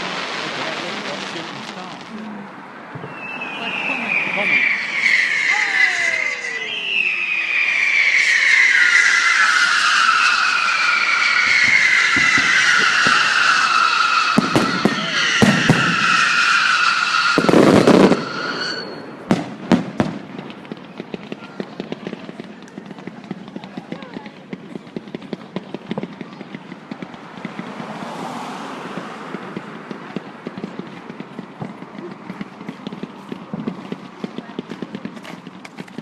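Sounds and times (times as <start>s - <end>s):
firework bangs: 0.0s - 36.0s
firework crackling: 0.0s - 36.0s
firework whistles: 0.0s - 36.0s
sharp firework cracks: 0.0s - 36.0s.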